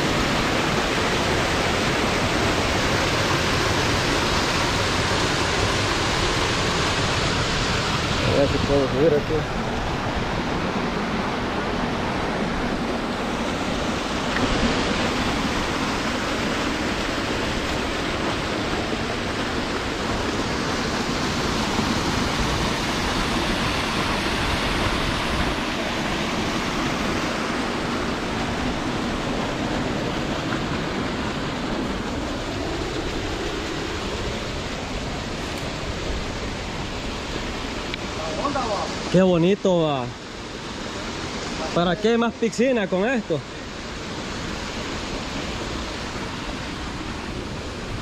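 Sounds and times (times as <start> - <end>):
water rushing down rocky cascade: 0.0 - 48.0.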